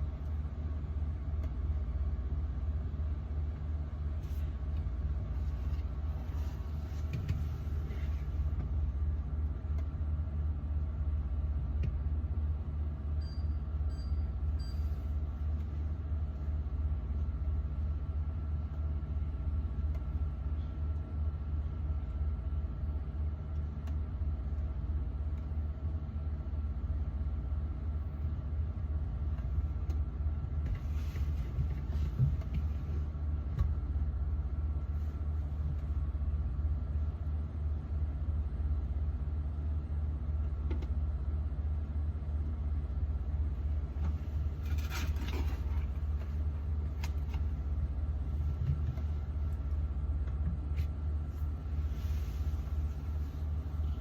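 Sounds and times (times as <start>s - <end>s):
refrigerator humming: 0.0s - 54.0s.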